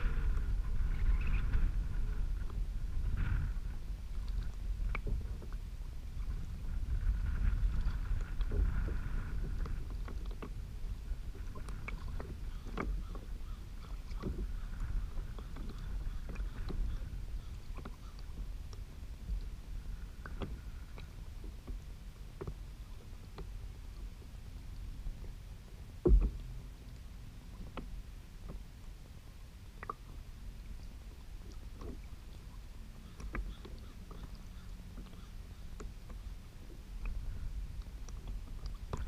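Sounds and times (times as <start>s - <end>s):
water lapping against kayak hull: 0.0s - 39.0s
wind rumble on microphone: 0.0s - 39.0s.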